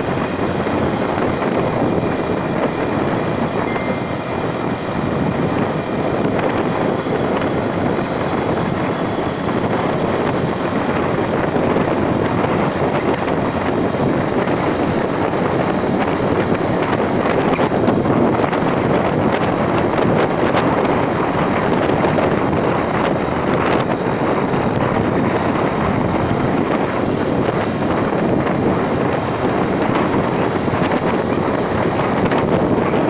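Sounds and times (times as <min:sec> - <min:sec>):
vehicle running noise: 0:00.0 - 0:33.0
wind buffeting microphone: 0:00.0 - 0:33.0.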